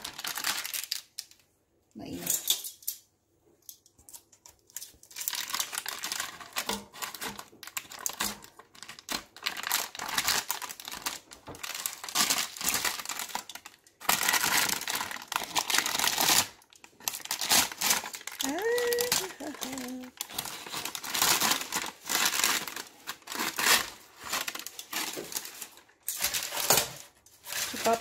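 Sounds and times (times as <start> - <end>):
parchment paper crinkling: 0.0 - 1.4, 4.0 - 28.0.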